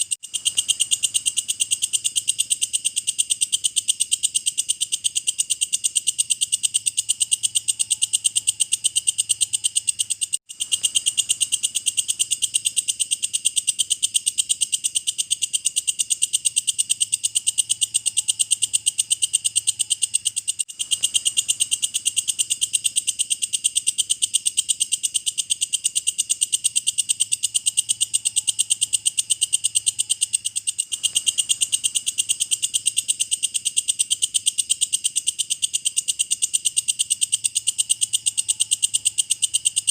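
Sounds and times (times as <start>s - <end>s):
bush cricket shrill pulses: 0.0s - 39.9s.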